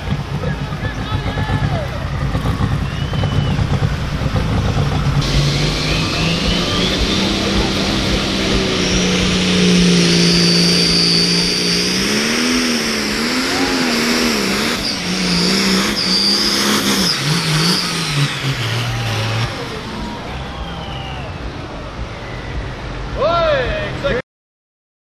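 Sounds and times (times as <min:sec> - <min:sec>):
diesel engine at full throttle: 0:00.0 - 0:24.2
high turbo whine: 0:00.0 - 0:24.2.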